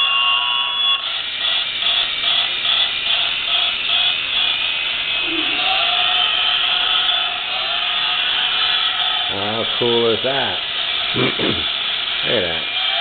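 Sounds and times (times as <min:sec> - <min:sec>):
toy train motor whine: 0:00.0 - 0:13.0.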